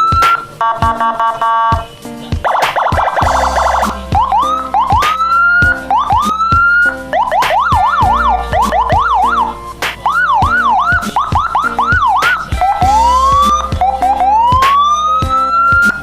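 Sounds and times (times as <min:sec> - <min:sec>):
electronic siren whoops and yelps: 0:02.4 - 0:16.0.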